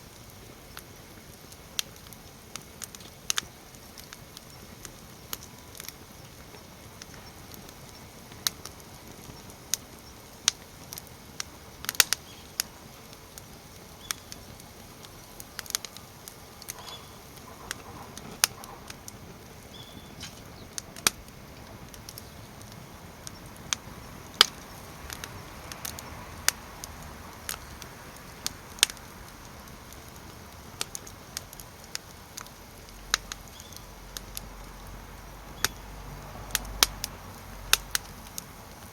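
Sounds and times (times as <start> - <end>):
firewood crackling and popping: 0.0 - 38.9
low steady hiss: 0.0 - 38.9.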